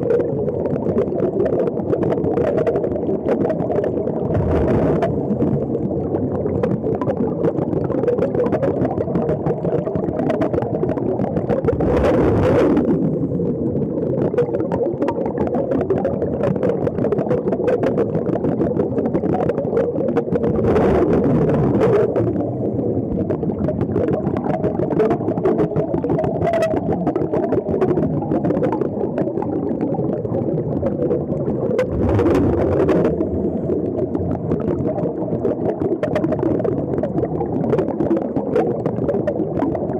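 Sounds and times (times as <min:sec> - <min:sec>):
underwater air bubbling: 0:00.0 - 0:39.9.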